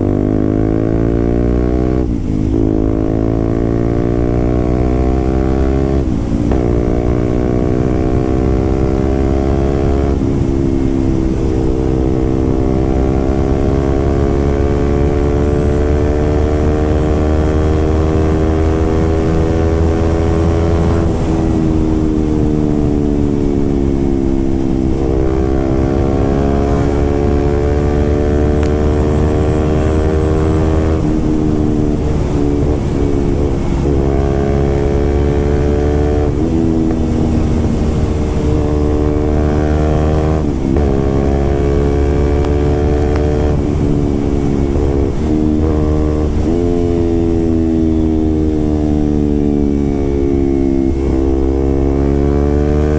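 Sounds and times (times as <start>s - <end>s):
loud motorcycle exhaust revving: 0.0s - 52.9s.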